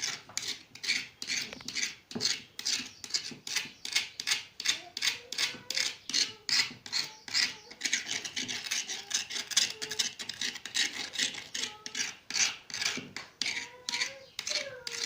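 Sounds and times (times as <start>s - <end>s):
rasping scraping strokes: 0.0s - 15.0s.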